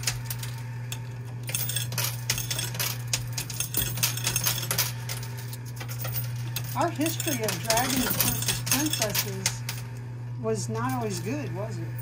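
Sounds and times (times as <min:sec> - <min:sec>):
coins clinking: 0:00.0 - 0:10.0, 0:10.6 - 0:12.0
machine low hum: 0:00.0 - 0:12.0.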